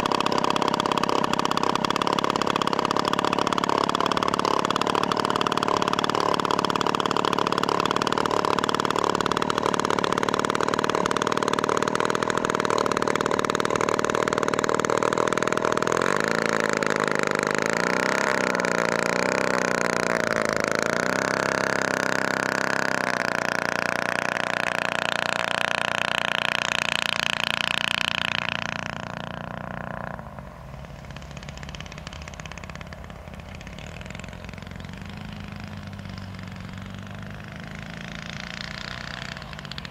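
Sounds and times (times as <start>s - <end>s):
model plane engine running: 0.0s - 39.9s.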